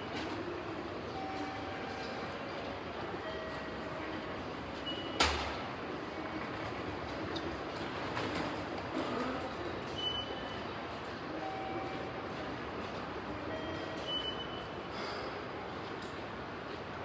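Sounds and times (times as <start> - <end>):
train and station noise: 0.0 - 17.0.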